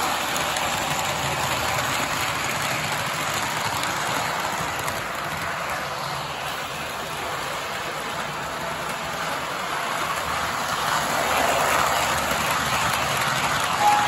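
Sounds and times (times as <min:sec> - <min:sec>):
model train wheels and motor whir: 0:00.0 - 0:14.0.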